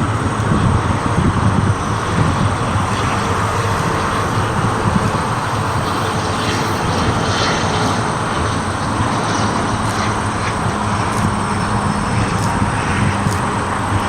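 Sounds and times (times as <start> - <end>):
aircraft engine: 0.0 - 14.0.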